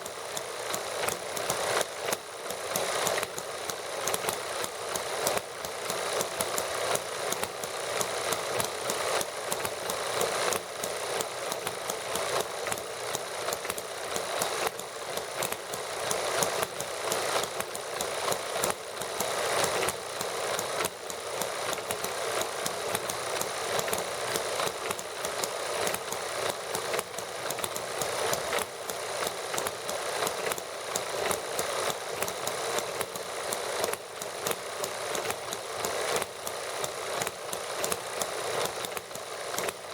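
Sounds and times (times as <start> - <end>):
small model engines chattering: 0.0 - 39.9.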